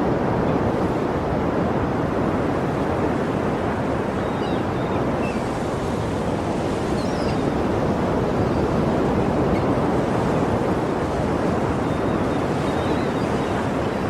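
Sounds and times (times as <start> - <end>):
waves washing on shore: 0.0 - 14.0.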